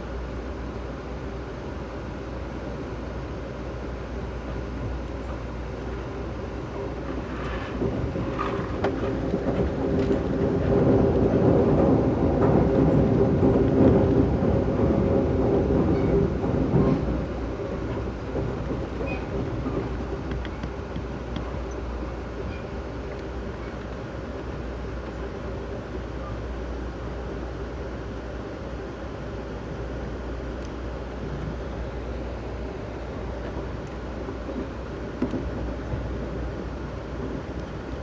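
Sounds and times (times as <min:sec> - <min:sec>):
train rumbling and clattering on rails: 0:00.0 - 0:38.0.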